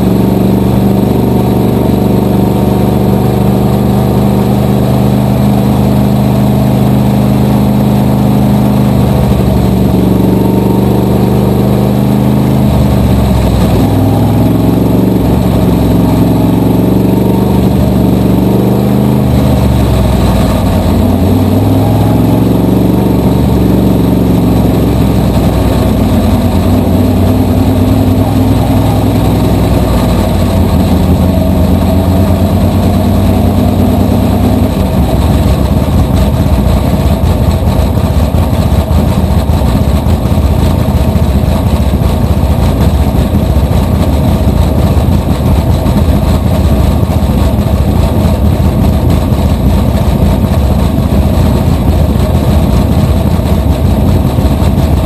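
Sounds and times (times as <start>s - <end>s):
race car engine running loud: 0.0s - 55.0s.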